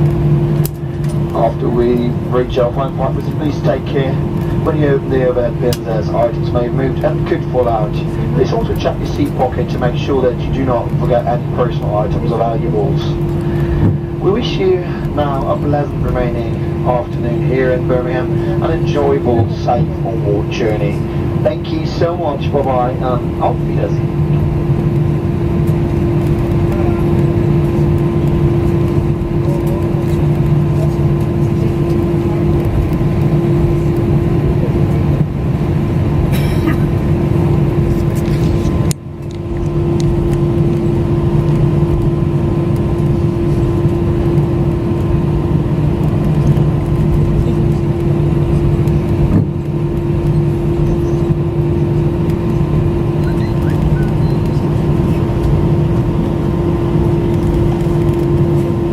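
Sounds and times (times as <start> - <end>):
aircraft cabin drone: 0.0 - 58.9.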